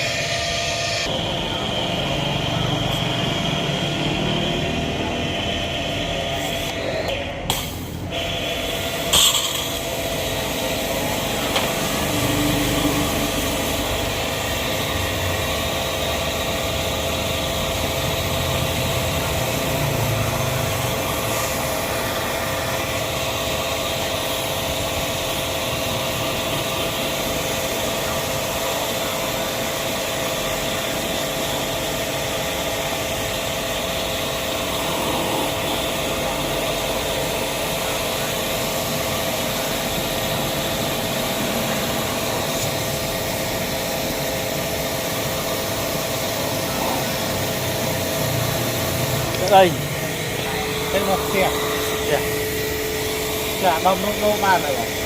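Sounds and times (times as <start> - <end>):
motor humming steadily: 0.0 - 55.0.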